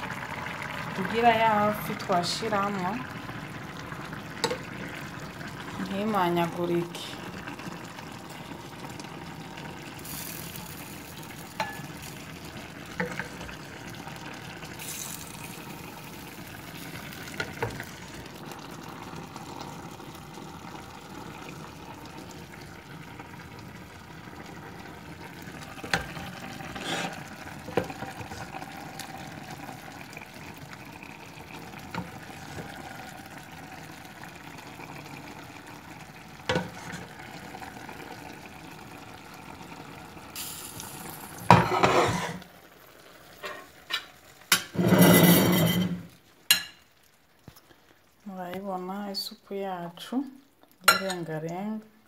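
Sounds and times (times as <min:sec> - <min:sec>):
soup bubbling in a pot: 0:00.0 - 0:49.2.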